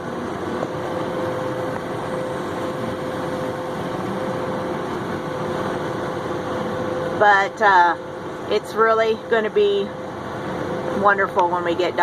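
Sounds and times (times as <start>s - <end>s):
steady tone: 0.0s - 12.0s
tractor engine running: 0.0s - 12.0s.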